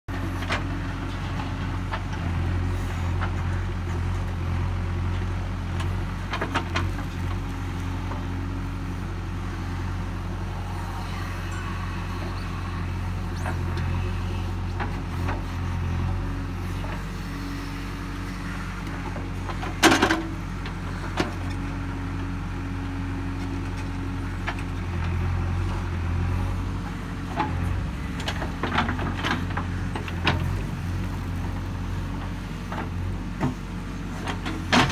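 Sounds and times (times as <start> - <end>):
backhoe digging and dumping soil: 0.1 - 34.9
diesel engine running under load: 0.1 - 34.9.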